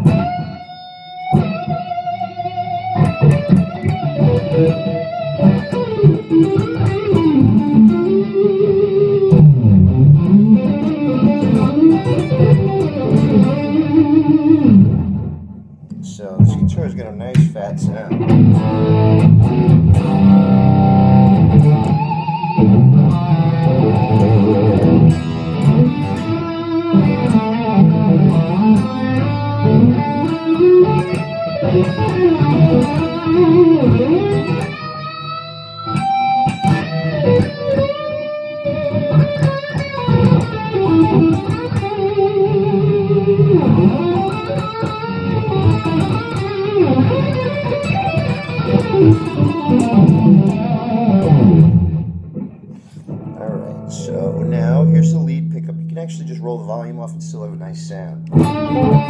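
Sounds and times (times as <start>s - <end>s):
overdriven electric guitar lead: 0.0s - 59.0s.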